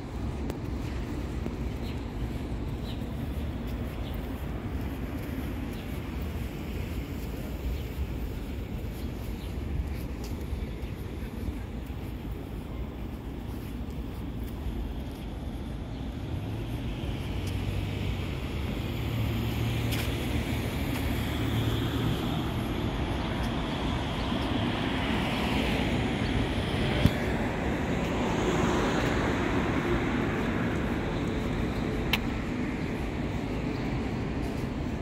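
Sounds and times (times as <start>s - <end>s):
street traffic: 0.0s - 35.0s.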